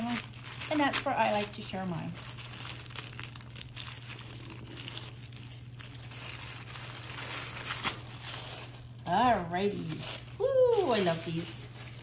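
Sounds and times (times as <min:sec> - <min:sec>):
packaging crinkling and rustling: 0:00.0 - 0:12.0
sharp crackle of packaging: 0:00.0 - 0:12.0.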